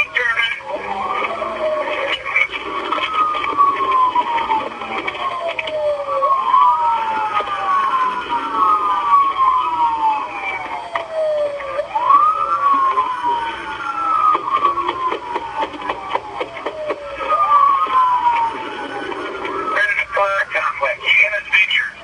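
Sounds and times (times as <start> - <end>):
police sirens wailing: 0.0 - 22.0.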